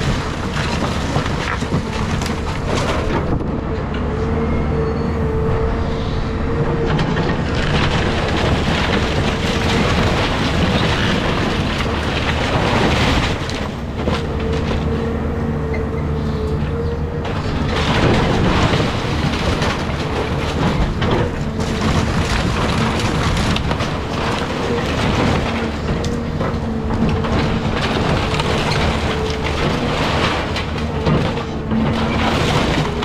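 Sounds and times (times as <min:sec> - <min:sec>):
debris crunching and clattering: 0:00.0 - 0:04.1, 0:06.8 - 0:33.0
excavator diesel engine running: 0:00.0 - 0:33.0.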